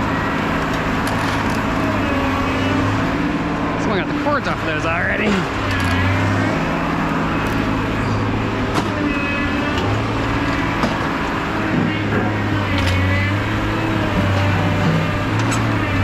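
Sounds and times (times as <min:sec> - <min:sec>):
large engine idling: 0:00.0 - 0:16.0.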